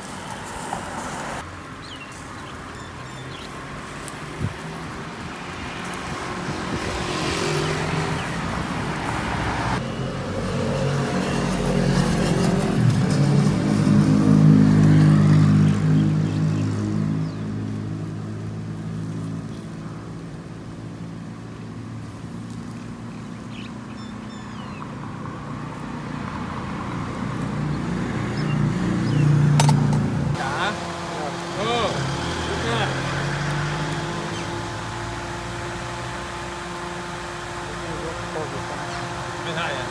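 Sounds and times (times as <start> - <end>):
street noise: 0.0 - 39.9
vehicle engine running: 2.4 - 39.9.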